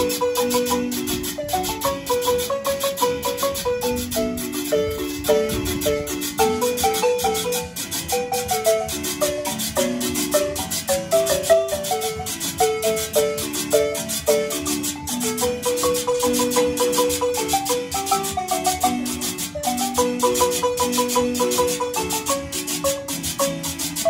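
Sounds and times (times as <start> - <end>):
marimba melody: 0.0 - 24.0
metal tube shaker: 0.0 - 24.0
strummed acoustic guitars: 0.0 - 24.0.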